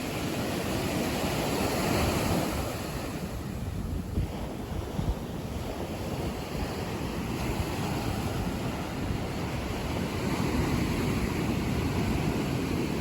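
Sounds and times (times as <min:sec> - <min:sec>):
sea surf washing onto beach: 0:00.0 - 0:13.0
wind buffeting microphone: 0:00.0 - 0:13.0.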